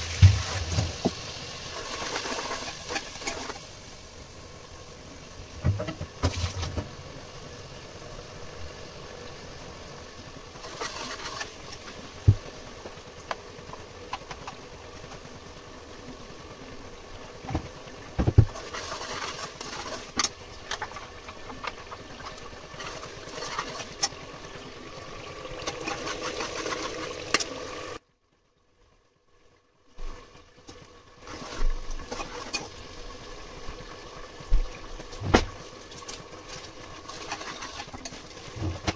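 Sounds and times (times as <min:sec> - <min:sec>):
kitchen hum: 0:00.0 - 0:28.0, 0:30.0 - 0:38.9.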